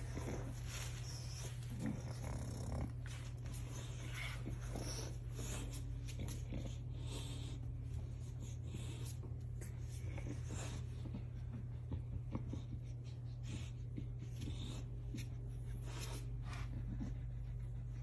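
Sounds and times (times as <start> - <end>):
dogs sniffing and snuffling: 0.0 - 18.0
steady low hum: 0.0 - 18.0.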